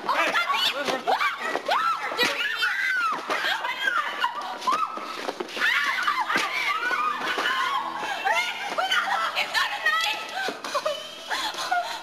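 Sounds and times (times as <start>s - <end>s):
people shouting and laughing: 0.0s - 12.0s.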